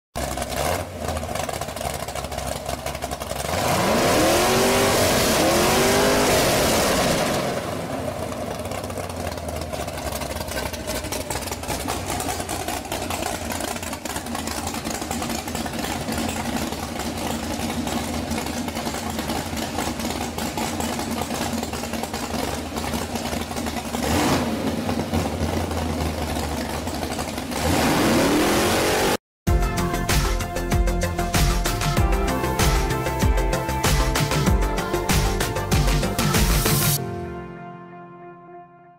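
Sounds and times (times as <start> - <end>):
car engine idling and revving: 0.2 - 37.0.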